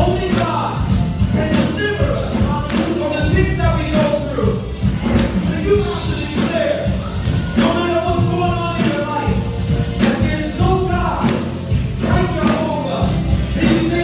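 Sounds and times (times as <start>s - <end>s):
band playing: 0.0s - 14.0s
voices singing gospel: 0.0s - 14.0s.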